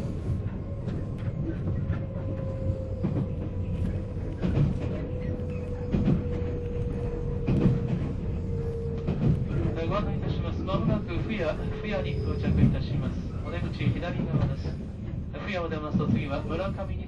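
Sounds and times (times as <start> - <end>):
train motor and gear whine: 0.0 - 15.3
train rumble: 0.0 - 17.0.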